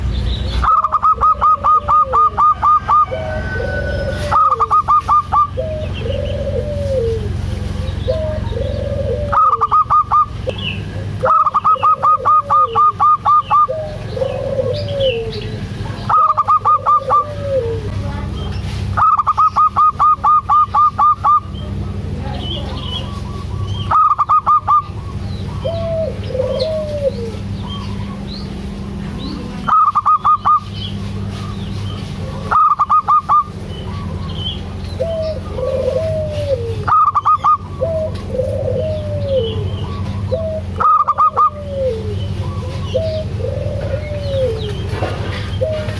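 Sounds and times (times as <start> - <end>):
doves calling: 0.0 - 45.9
steady low hum: 0.0 - 45.9.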